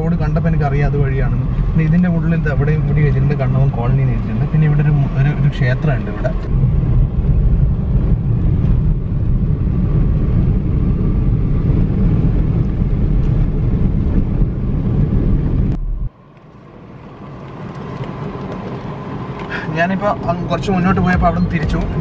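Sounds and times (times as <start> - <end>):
quiet car cabin noise: 0.0 - 8.9, 12.6 - 22.0
car engine and road rumble: 0.0 - 22.0.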